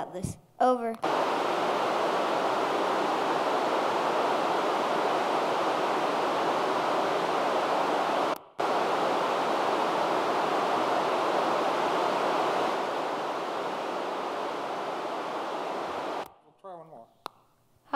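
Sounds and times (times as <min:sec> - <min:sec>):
radio static hiss: 0:01.0 - 0:16.3.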